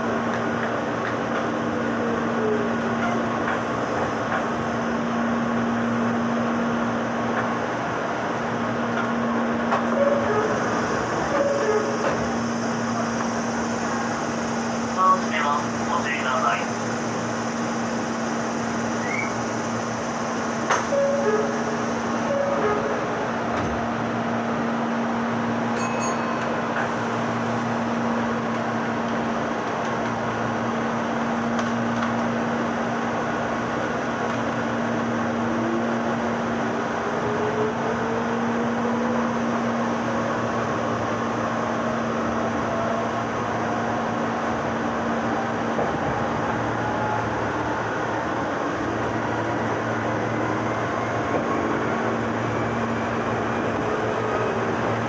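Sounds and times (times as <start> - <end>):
train rail noise: 0.0 - 55.0.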